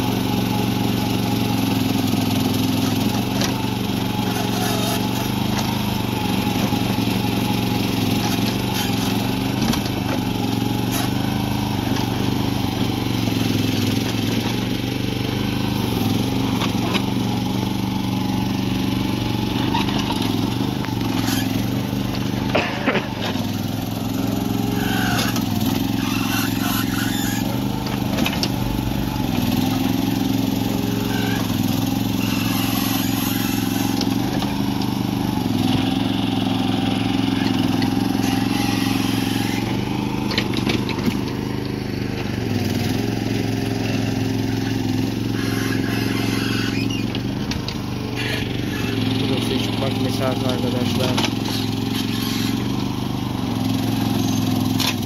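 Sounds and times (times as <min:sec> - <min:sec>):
hydraulic arm digging soil: 0:00.0 - 0:55.0
mini excavator engine running: 0:00.0 - 0:55.0.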